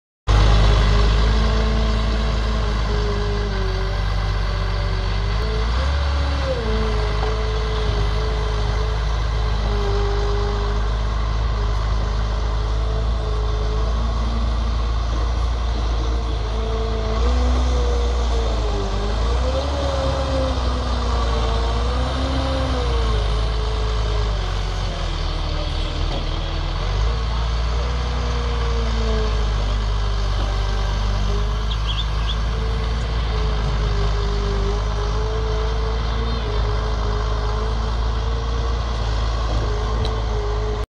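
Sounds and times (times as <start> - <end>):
diesel engine running hard: 0.3 - 40.9.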